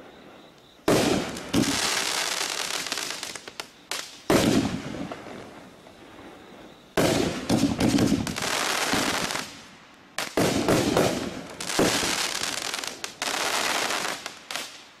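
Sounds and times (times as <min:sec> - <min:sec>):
fireworks pops and bangs: 0:00.8 - 0:05.7, 0:07.0 - 0:15.0.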